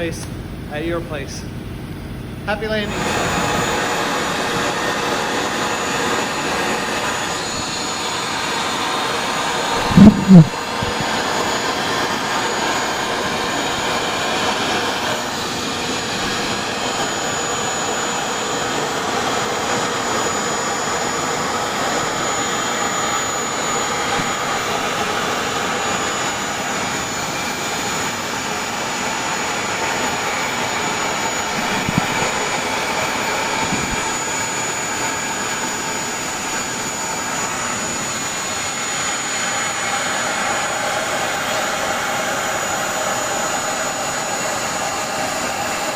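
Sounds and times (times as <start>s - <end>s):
fan air rushing: 0.0s - 45.9s.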